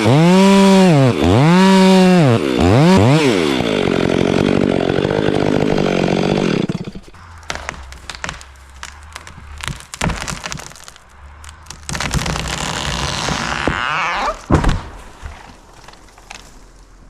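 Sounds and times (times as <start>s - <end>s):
chainsaw cutting wood: 0.0s - 11.0s, 11.6s - 15.4s
wood cracking: 0.0s - 17.0s.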